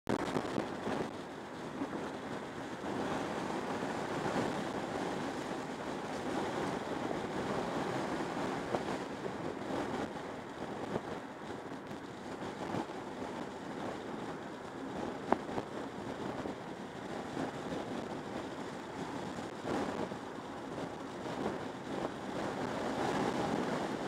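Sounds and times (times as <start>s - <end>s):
wind rushing through car window: 0.1s - 24.0s.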